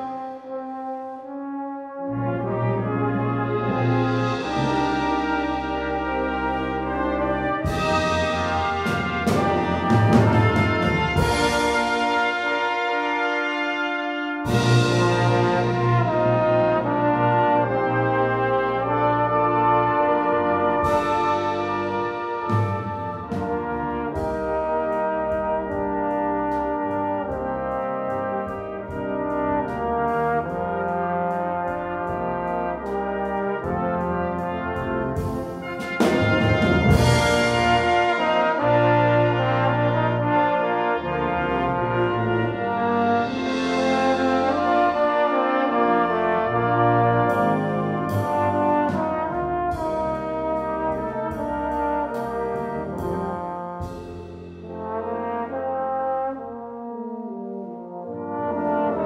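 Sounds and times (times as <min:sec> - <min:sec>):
brass band playing chords: 0:00.0 - 0:59.0.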